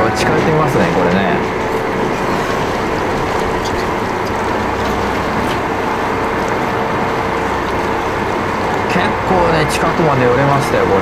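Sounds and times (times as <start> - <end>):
boat engine running: 0.0 - 11.0
water rushing: 0.0 - 11.0
wind: 0.0 - 11.0.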